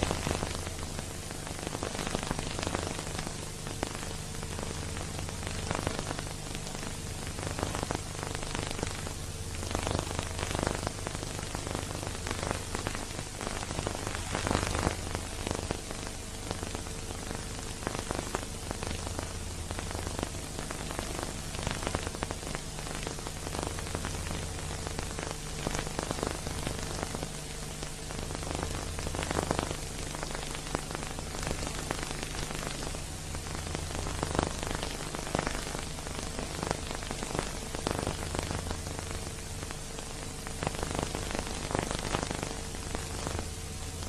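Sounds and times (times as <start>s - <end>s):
crackling hiss with clicks: 0.0s - 44.0s
low constant hum: 0.0s - 44.0s.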